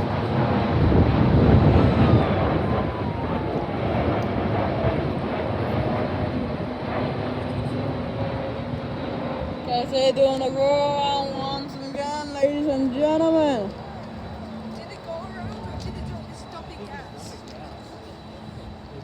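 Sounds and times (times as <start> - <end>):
jet engine whine: 0.0 - 19.0
jet engines rumbling: 0.0 - 19.0.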